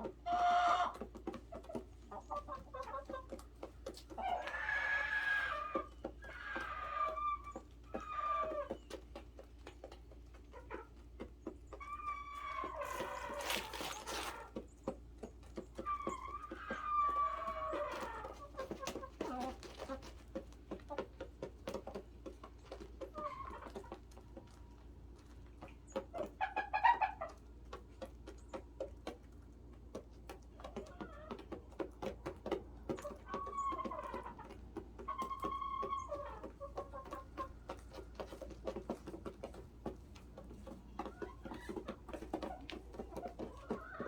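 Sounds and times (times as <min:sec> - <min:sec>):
hens clucking: 0:00.0 - 0:44.0.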